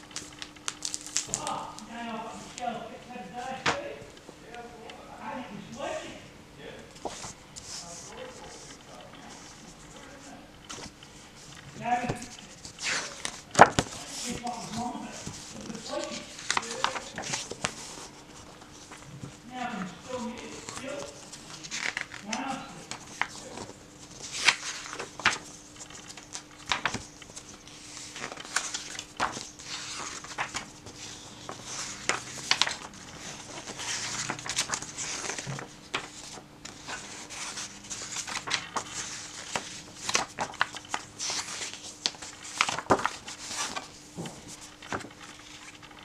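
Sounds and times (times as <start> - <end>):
book pages turning: 0.0 - 5.0, 6.9 - 46.0.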